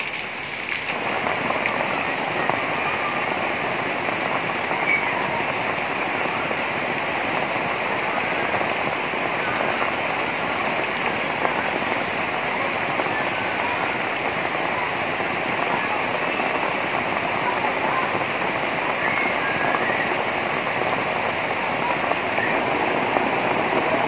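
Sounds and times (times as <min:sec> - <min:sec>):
heavy rain on water and concrete: 0:00.0 - 0:24.0.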